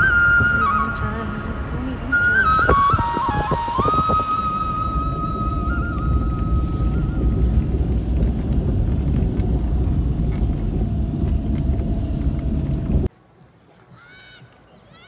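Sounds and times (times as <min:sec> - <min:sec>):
car road and engine rumble: 0:00.0 - 0:13.3
wind: 0:00.0 - 0:15.0.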